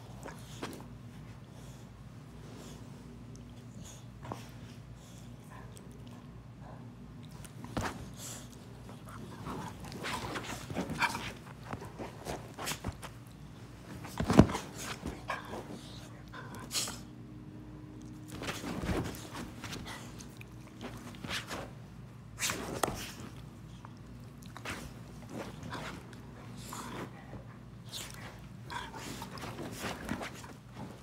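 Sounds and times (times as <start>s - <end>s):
dogs play-fighting: 0.0s - 31.0s.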